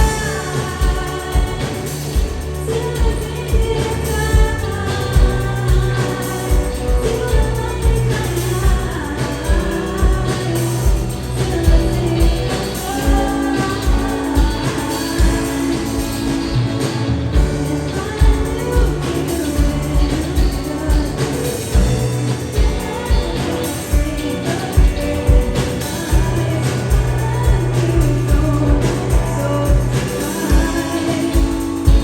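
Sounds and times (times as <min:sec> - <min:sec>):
bass guitar: 0:00.0 - 0:32.0
drum kit beat: 0:00.0 - 0:32.0
guitar: 0:00.0 - 0:32.0
person singing: 0:00.0 - 0:32.0.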